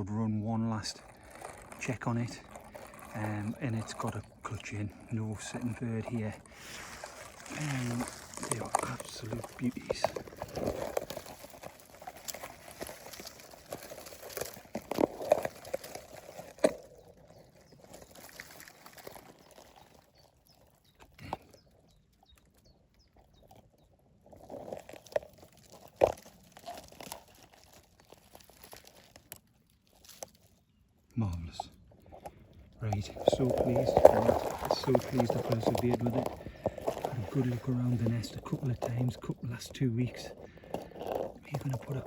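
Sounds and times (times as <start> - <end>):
undergrowth rustling and crackling: 0.0 - 42.0.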